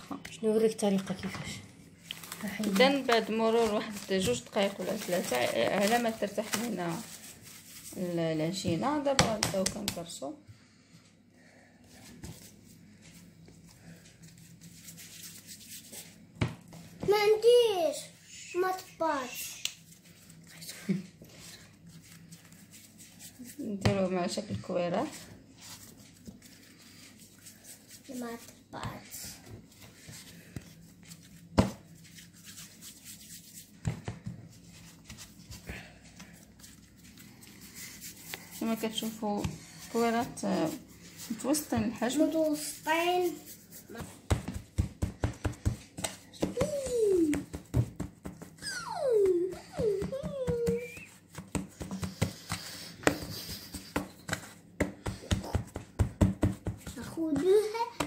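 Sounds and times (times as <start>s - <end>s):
hands kneading dough: 1.9s - 10.4s, 11.9s - 18.0s, 18.7s - 58.0s.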